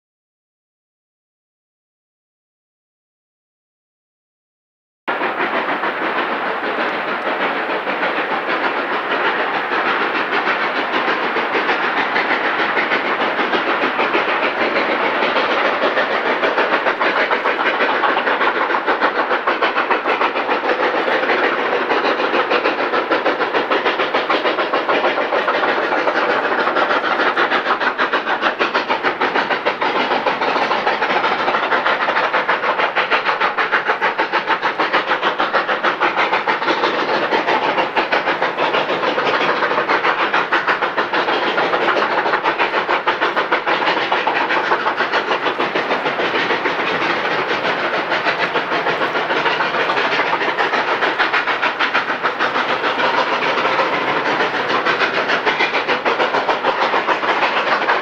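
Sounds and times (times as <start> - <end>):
steam locomotive exhaust beating: 5.1 - 58.0.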